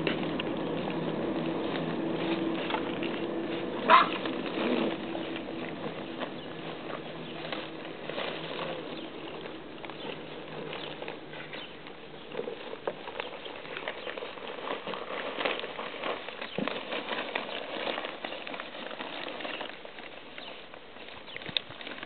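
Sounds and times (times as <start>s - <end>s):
paper crackling and rustling: 0.0s - 22.0s.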